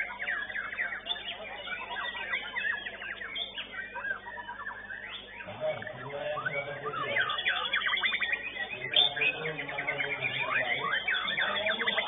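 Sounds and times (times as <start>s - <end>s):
songbird singing: 0.0s - 12.0s
voices murmuring: 0.0s - 12.0s.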